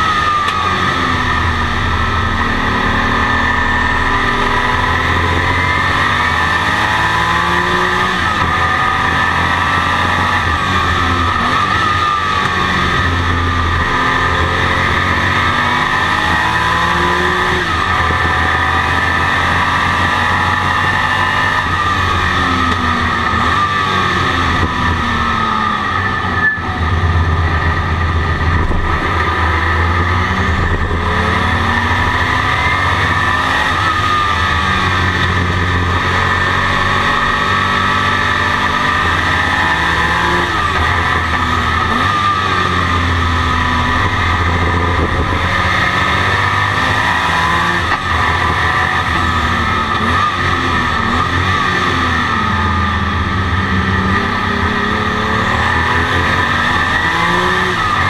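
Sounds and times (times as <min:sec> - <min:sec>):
racing engine revving through gears: 0:00.0 - 0:58.0.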